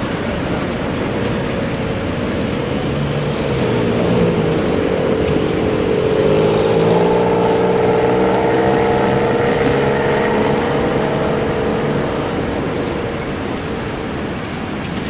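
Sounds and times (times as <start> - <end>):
train machine hum: 0.0 - 15.0.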